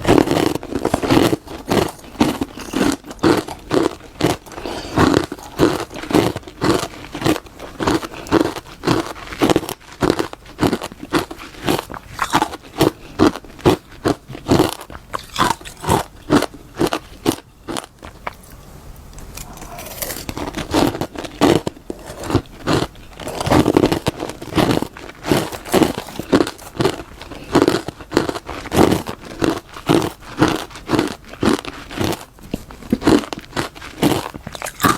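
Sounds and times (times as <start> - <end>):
crunching frost being chewed: 0.0 - 18.6, 19.2 - 34.9.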